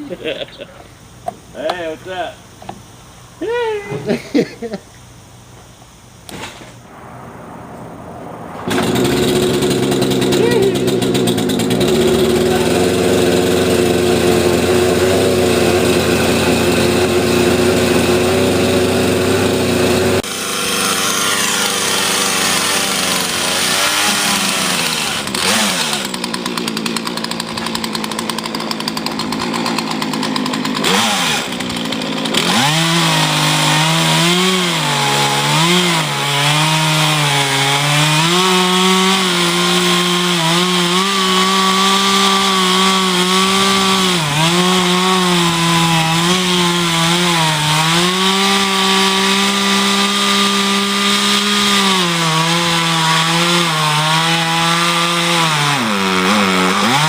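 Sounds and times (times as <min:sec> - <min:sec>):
chainsaw cutting wood: 0:08.7 - 0:57.0.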